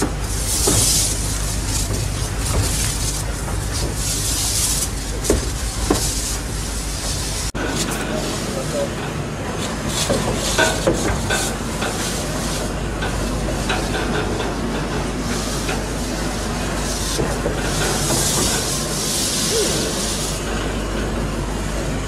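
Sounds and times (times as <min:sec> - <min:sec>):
steam hiss: 0:00.0 - 0:20.7
train rumble with wheel clicks: 0:00.0 - 0:22.0.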